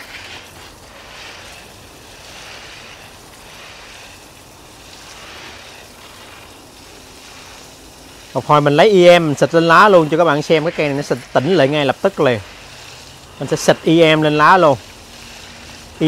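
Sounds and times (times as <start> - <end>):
hose water splashing on soil: 0.0 - 16.0.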